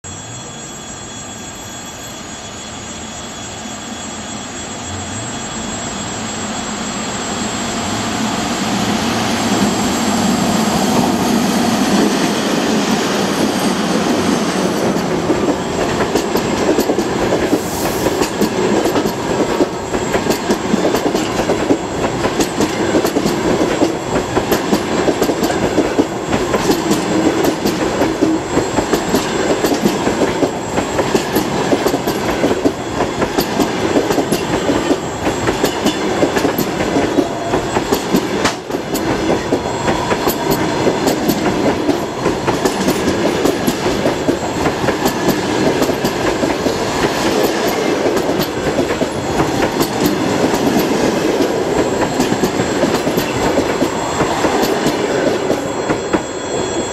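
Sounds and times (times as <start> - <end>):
rush of train wheels on rails: 0.8 - 56.9.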